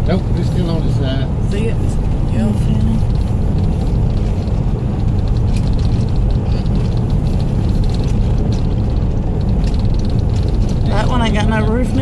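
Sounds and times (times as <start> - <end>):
car interior road drone: 0.0 - 12.0.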